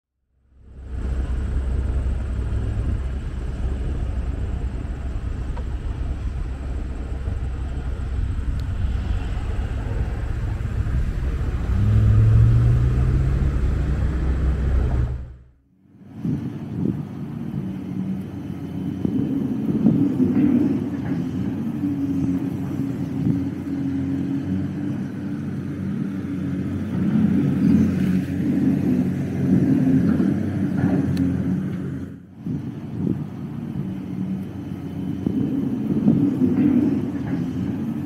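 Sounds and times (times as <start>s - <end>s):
low traffic rumble: 0.2s - 38.0s
vehicle engine passing: 0.4s - 38.0s.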